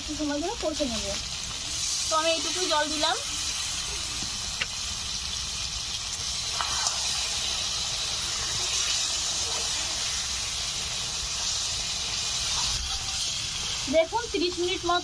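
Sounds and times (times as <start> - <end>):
curry sizzling in a metal pan: 0.0 - 15.0.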